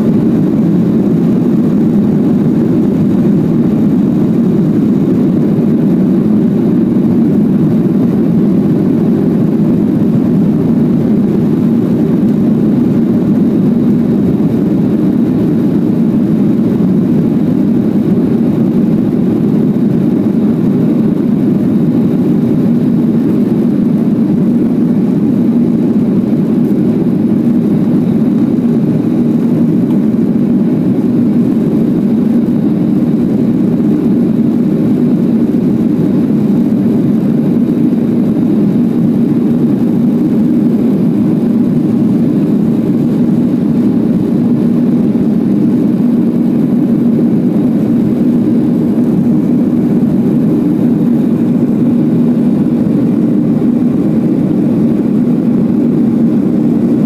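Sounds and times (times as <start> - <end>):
jet engines at climb power: 0.0 - 57.0.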